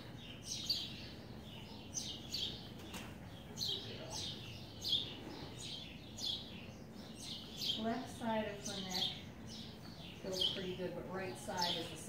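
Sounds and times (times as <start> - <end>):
small bird chirping: 0.0 - 10.9.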